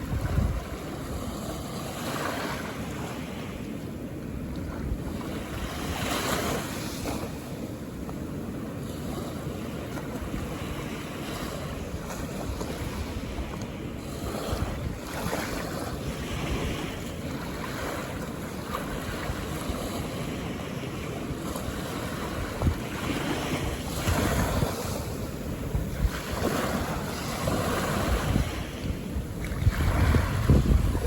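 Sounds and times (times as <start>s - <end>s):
ocean waves on beach: 0.0s - 31.0s.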